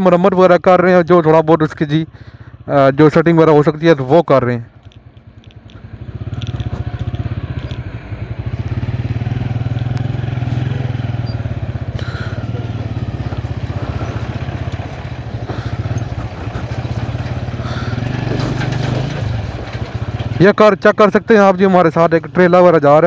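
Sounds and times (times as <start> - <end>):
vehicle engine running: 0.6 - 23.0.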